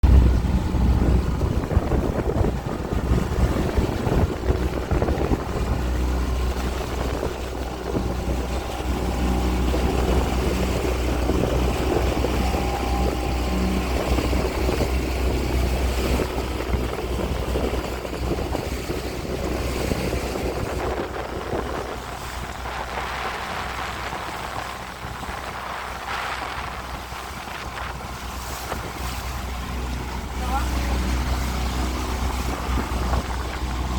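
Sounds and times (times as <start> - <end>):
motorboat engine running: 0.0 - 33.9
water rushing past: 0.0 - 33.9
wind buffeting microphone: 0.0 - 33.9.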